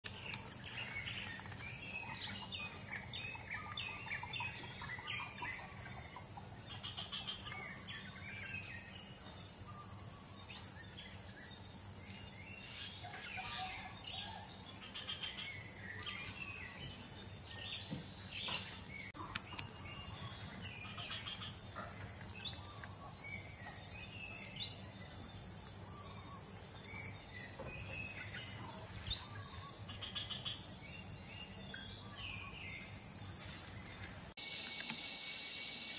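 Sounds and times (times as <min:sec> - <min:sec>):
high-pitched insect drone: 0:00.1 - 0:35.9.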